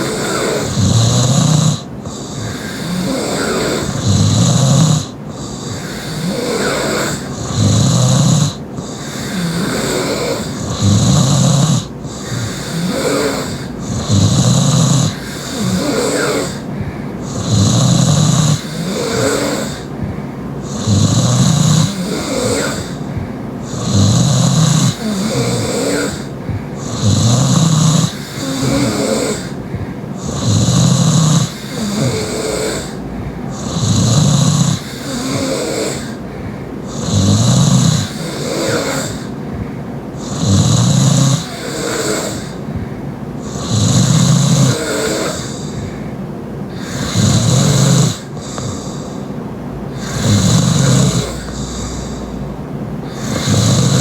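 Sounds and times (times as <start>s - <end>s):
woman snoring heavily: 0.0s - 49.3s, 49.9s - 54.0s
quiet breathing: 0.0s - 54.0s.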